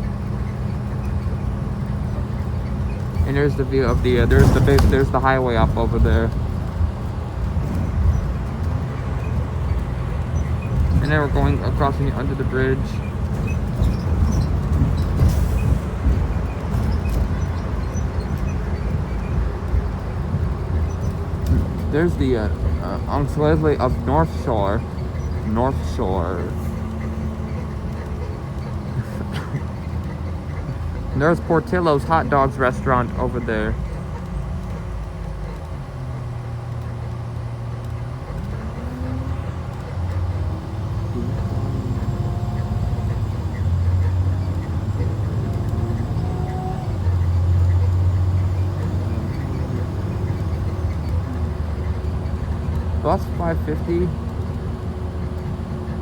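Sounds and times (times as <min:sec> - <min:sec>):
diesel engine rumbling: 0:00.0 - 0:56.0
road noise: 0:00.0 - 0:56.0.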